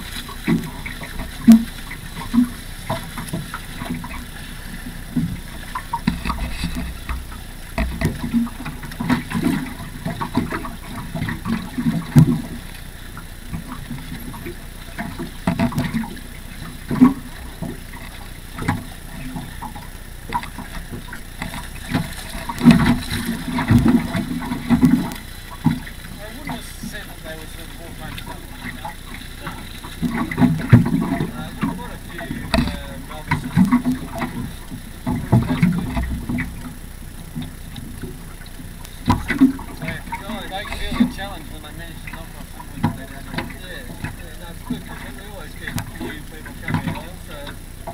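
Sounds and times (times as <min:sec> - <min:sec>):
rush of water and wind: 0:00.0 - 0:47.9
water slapping against hull: 0:00.0 - 0:47.9.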